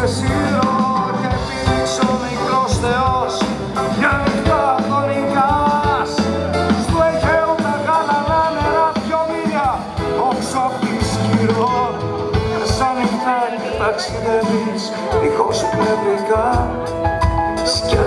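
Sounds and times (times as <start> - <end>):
drums: 0.0 - 18.0
electric bass guitar: 0.0 - 18.0
man singing: 0.0 - 18.0.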